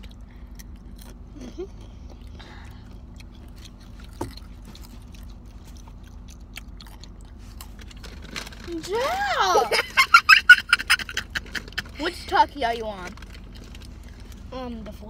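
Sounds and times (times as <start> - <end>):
chewing crunchy chips: 0.0 - 9.2, 11.0 - 12.1, 12.7 - 14.5
steady low hum: 0.0 - 15.0.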